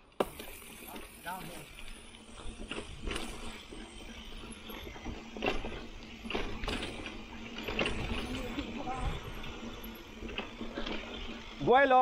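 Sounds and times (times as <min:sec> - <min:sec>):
bike knocking and rattling: 0:00.0 - 0:12.0
bike tyres on dirt trail: 0:00.0 - 0:12.0.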